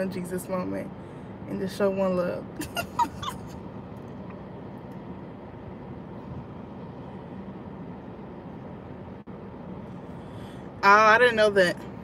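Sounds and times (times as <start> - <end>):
car cabin hum and hiss: 0.0 - 12.0.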